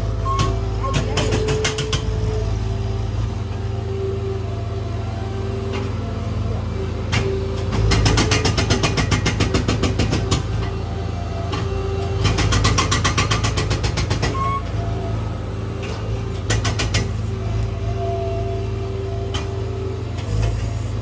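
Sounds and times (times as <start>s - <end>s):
loader engine drone: 0.0s - 21.0s.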